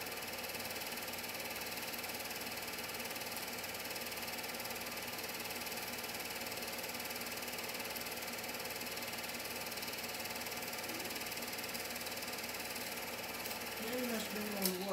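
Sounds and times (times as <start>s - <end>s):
film projector whirring and clattering: 0.0s - 14.9s.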